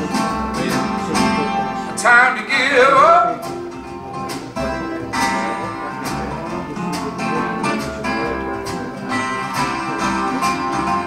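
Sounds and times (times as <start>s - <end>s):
song with acoustic guitar: 0.0s - 11.0s.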